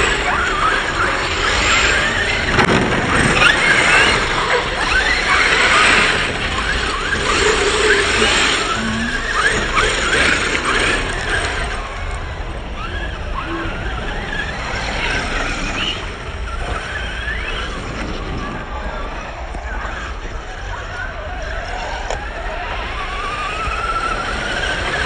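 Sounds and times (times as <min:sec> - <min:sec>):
radio-controlled car motors whining: 0:00.0 - 0:25.0.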